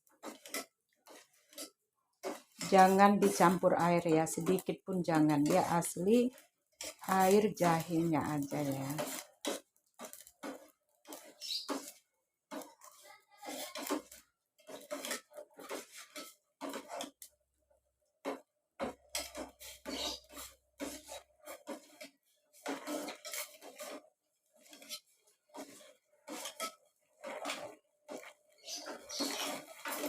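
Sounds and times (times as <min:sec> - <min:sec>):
spoon scraping a pot: 0:00.1 - 0:17.3, 0:18.2 - 0:30.0.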